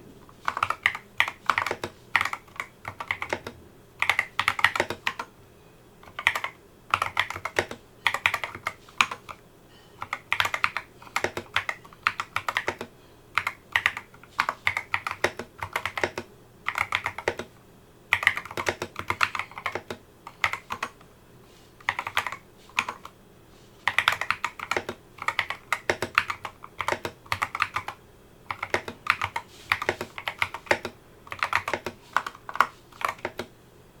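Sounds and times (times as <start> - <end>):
mechanical keyboard typing: 0.4 - 5.3, 6.0 - 9.4, 10.0 - 17.5, 18.1 - 21.0, 21.8 - 23.1, 23.8 - 33.5.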